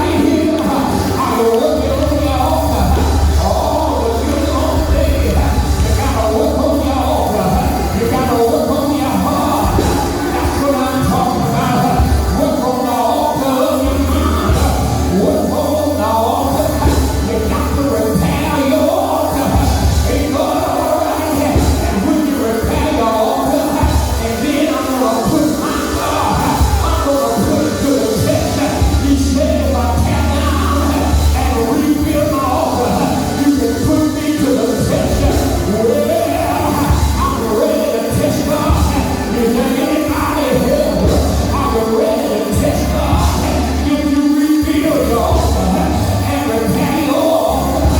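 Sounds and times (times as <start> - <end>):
church music with heavy bass: 0.0 - 47.9.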